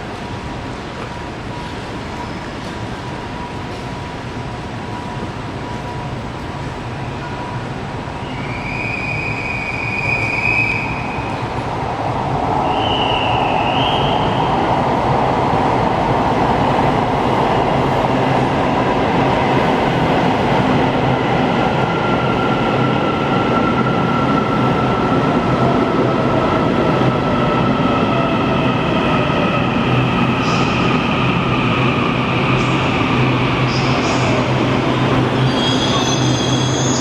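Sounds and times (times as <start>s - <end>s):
train wheel and running noise: 0.0s - 37.0s.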